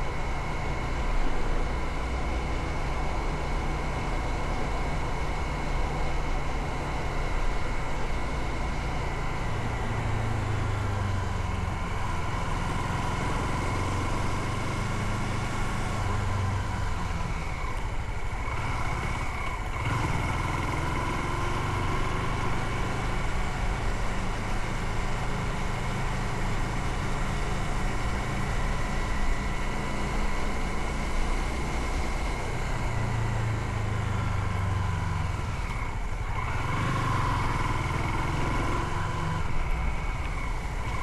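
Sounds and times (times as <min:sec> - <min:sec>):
wind and road noise: 0:00.0 - 0:41.0.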